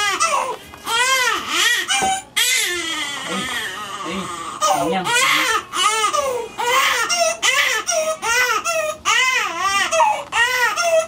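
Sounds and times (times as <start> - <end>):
newborn baby crying: 0.0 - 11.0.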